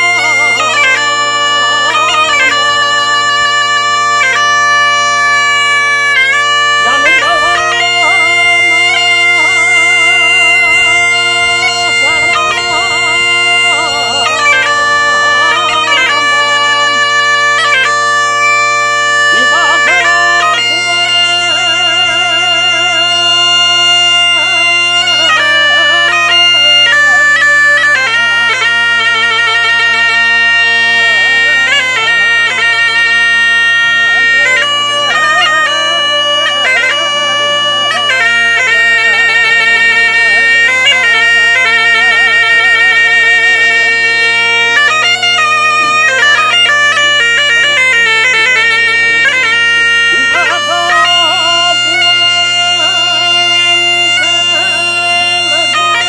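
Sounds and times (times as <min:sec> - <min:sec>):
bagpipe melody with drone: 0:00.0 - 0:56.0.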